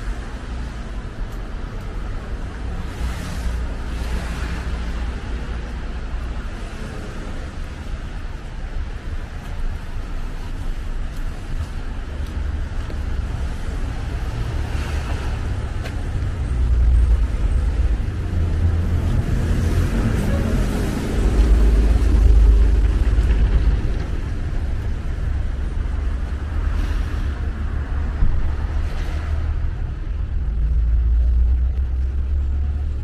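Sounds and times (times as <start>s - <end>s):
cars passing on slushy street: 0.0s - 33.0s.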